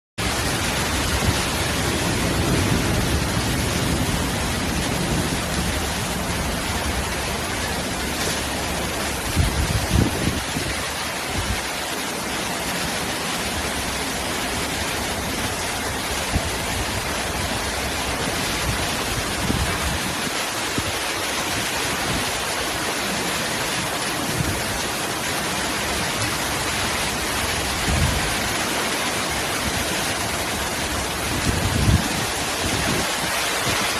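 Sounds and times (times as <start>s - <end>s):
strong wind gusts rumbling: 0.2s - 11.8s, 13.5s - 33.9s
heavy rain pouring: 0.2s - 33.9s.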